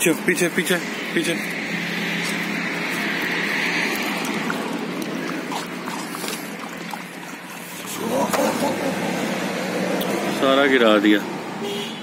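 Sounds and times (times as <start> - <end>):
dogs lapping and slurping: 0.1 - 10.4.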